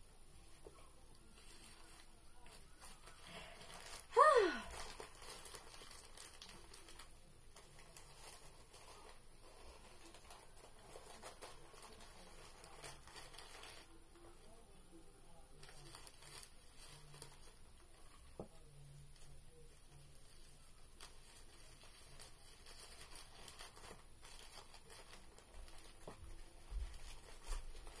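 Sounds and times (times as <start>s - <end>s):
wrapped pads crinkling: 0.4s - 28.0s.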